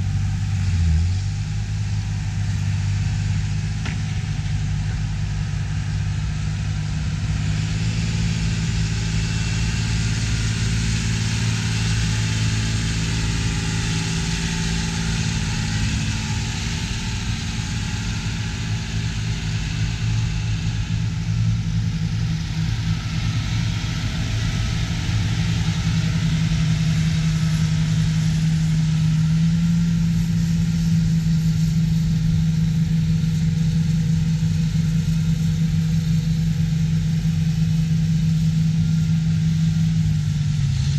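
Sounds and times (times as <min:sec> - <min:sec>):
tractor diesel engines droning: 0:00.0 - 0:40.9.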